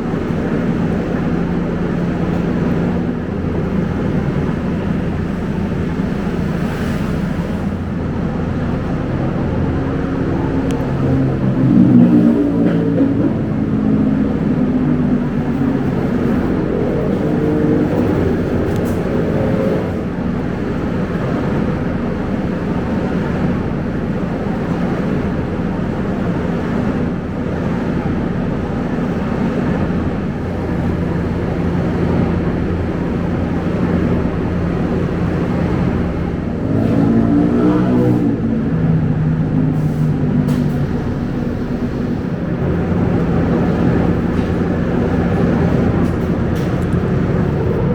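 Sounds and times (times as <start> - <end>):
bus diesel engine running: 0.0 - 47.9
road rumble: 0.0 - 47.9.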